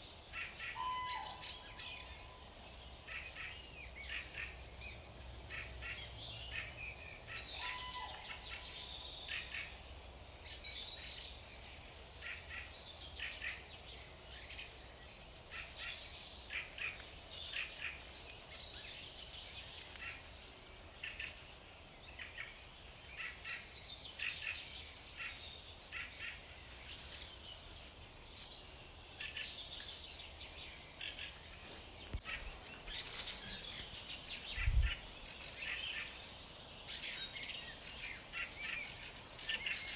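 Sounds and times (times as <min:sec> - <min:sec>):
birds chirping and trilling: 0:00.0 - 0:11.3, 0:12.2 - 0:39.9.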